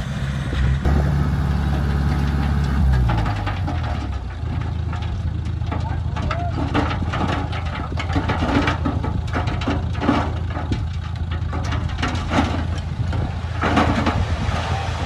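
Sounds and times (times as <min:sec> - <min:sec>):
heavy diesel engine droning: 0:00.0 - 0:15.0
clattering and crunching: 0:00.8 - 0:14.7.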